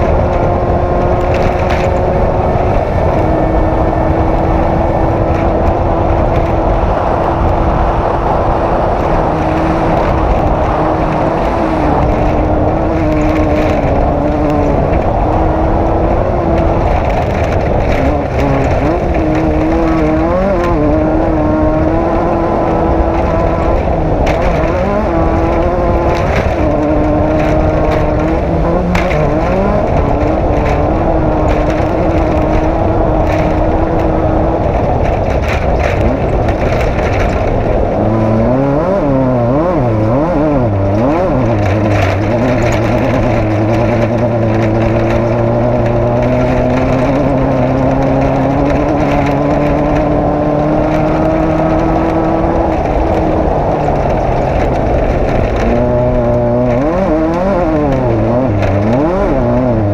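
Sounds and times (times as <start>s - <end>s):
knocks and rattles: 0.0s - 59.9s
race vehicle engine revving: 0.0s - 59.9s.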